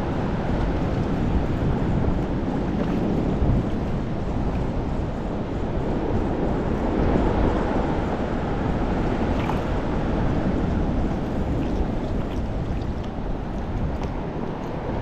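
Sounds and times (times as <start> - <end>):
choppy sea water: 0.0 - 15.0
wind on microphone: 0.0 - 15.0.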